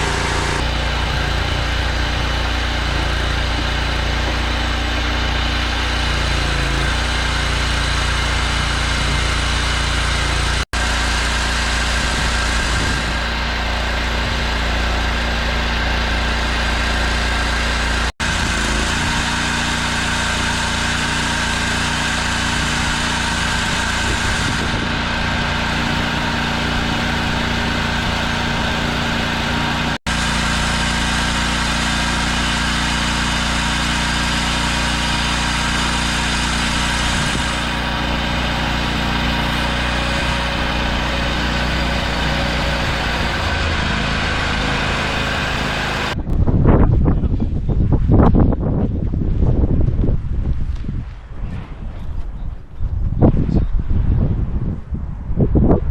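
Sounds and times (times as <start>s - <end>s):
chainsaw cutting through log: 0.0s - 46.2s.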